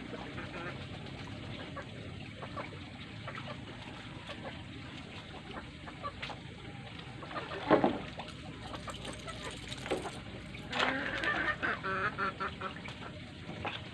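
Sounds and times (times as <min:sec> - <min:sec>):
chickens clucking: 0:00.0 - 0:13.9
paddle water sounds: 0:00.0 - 0:13.9.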